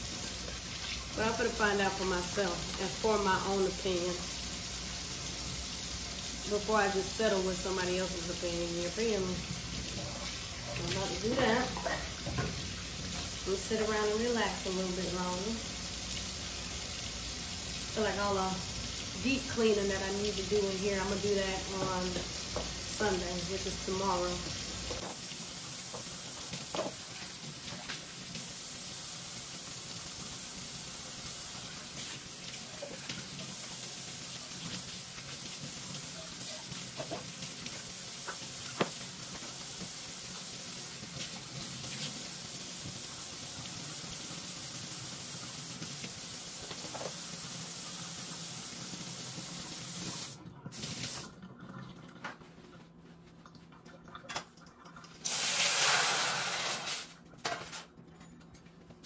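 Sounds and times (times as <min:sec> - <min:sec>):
faucet running into sink: 0:00.0 - 0:52.4.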